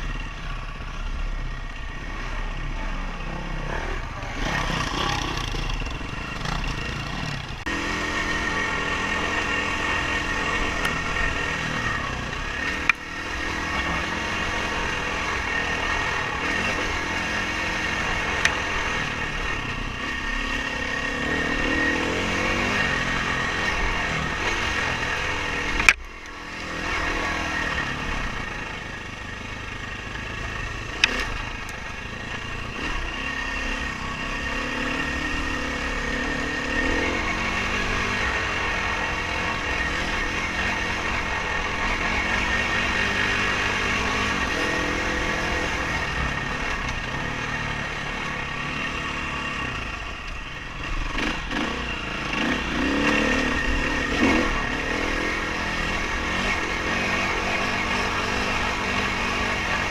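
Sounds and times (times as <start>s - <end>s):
dirt bike engine revving: 2.0s - 59.9s.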